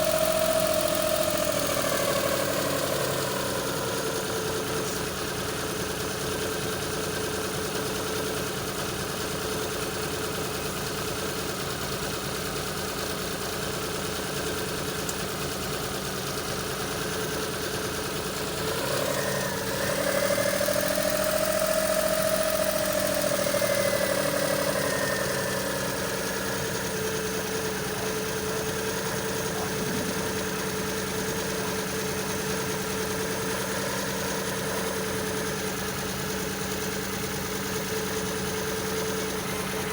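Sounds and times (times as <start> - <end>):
car engine hunting idle: 0.0 - 39.9.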